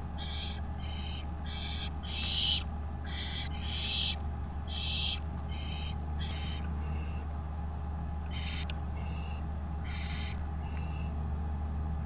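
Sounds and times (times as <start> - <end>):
owl chicks rasping begging calls: 0.0 - 7.4, 8.2 - 11.2
low electrical hum: 0.0 - 12.0.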